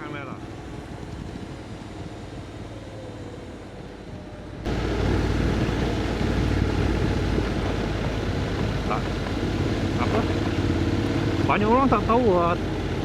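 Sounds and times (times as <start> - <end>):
motorcycle engine rumble: 0.0 - 13.0
wind noise: 0.0 - 13.0.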